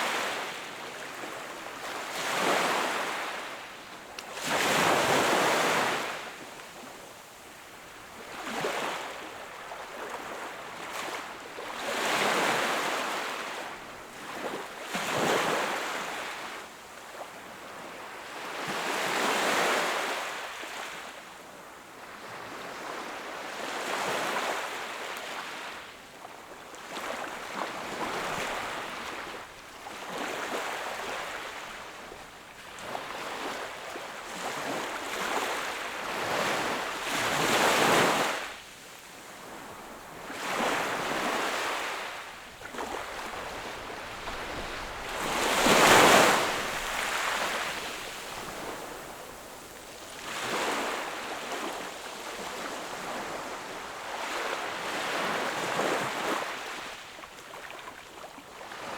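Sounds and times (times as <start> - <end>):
small waves breaking on beach: 0.0 - 21.2, 21.9 - 58.9.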